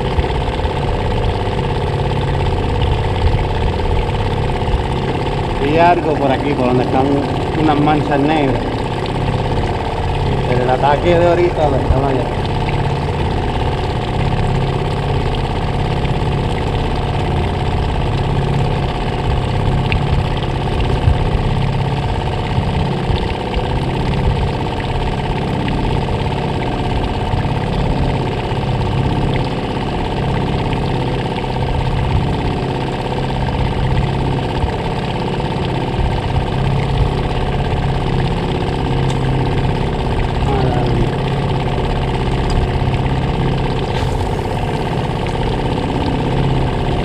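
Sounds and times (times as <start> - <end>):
small boat motor humming: 0.0 - 47.0.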